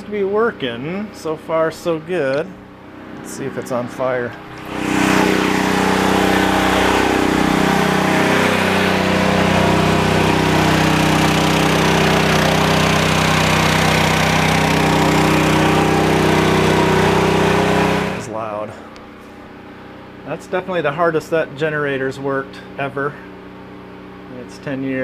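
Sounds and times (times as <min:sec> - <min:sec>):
generator engine running under load: 0:00.0 - 0:25.0.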